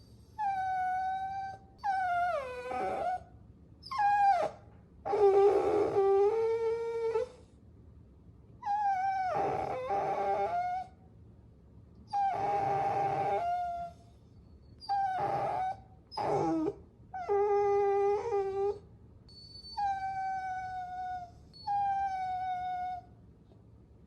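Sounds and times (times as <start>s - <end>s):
puppy whining: 0.0s - 7.5s, 8.6s - 11.0s, 12.1s - 23.2s.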